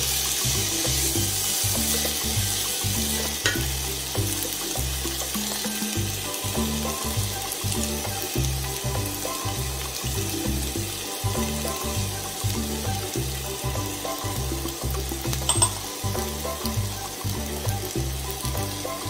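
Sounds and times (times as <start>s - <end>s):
background music with bass line: 0.0s - 19.0s
rice sizzling in a pan: 0.0s - 19.0s.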